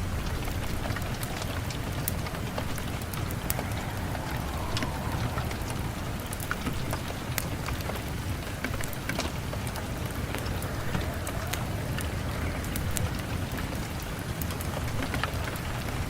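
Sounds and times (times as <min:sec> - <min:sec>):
steady rain: 0:00.0 - 0:16.0
wood fire crackling and popping: 0:00.0 - 0:16.0.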